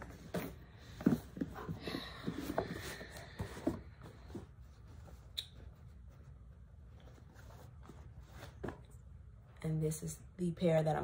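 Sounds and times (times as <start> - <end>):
soft rustling: 0.0 - 9.6.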